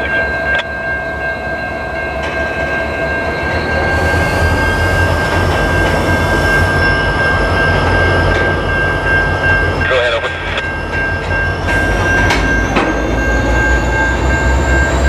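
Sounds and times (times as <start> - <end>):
freight train rolling on track: 0.0 - 15.0
steady high-pitched tone: 0.0 - 15.0.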